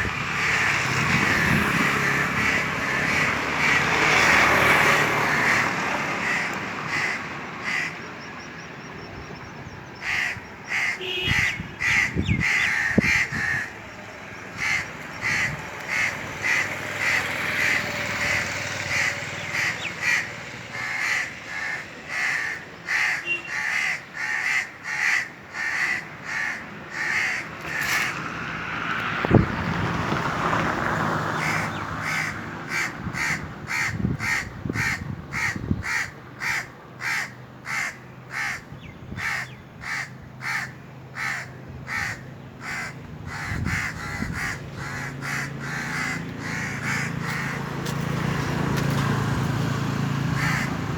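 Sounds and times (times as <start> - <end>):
rushing background noise: 0.0 - 50.9
crows cawing: 0.3 - 8.1, 10.0 - 28.2, 31.2 - 48.8, 50.2 - 50.9.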